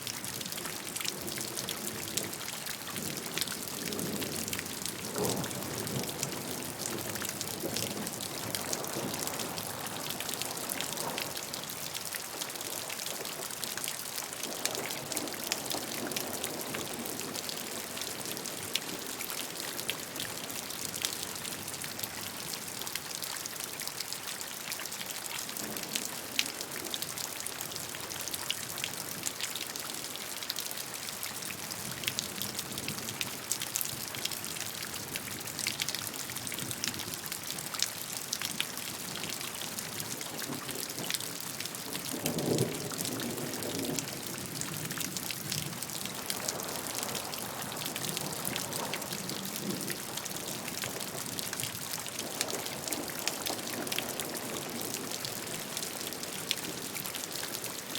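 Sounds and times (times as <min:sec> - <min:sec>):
raindrops striking close by: 0:00.0 - 0:57.9
steady rainfall: 0:00.0 - 0:57.9.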